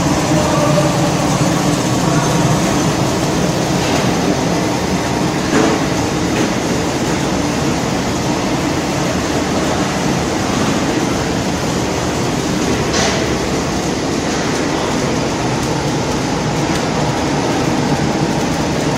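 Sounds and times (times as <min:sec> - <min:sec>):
loud machinery noise: 0:00.0 - 0:18.9.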